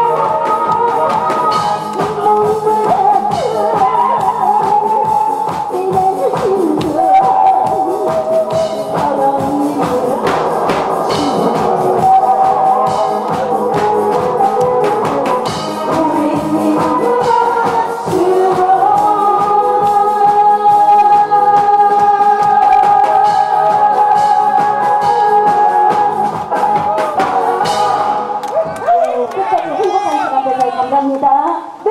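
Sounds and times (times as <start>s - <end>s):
woman singing into a microphone: 0.0s - 28.3s
backing track with drum beat: 0.0s - 31.9s.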